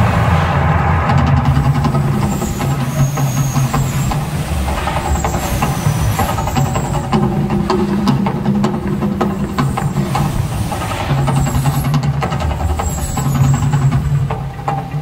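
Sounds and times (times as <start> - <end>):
gas flame jets whooshing: 0.0 - 14.6
deep continuous rumble: 0.0 - 15.0.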